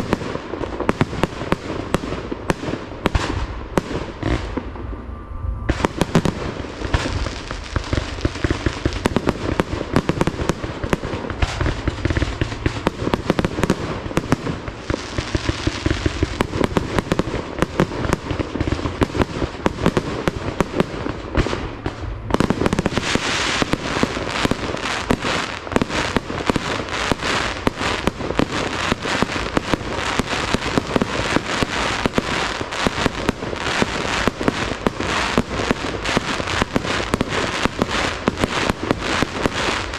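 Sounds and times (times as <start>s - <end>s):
fireworks bangs and crackling: 0.0s - 5.0s, 5.6s - 39.9s.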